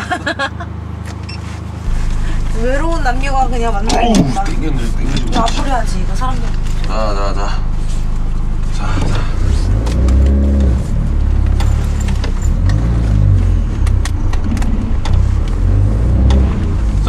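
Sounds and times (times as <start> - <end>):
car engine revving: 1.6 - 17.0.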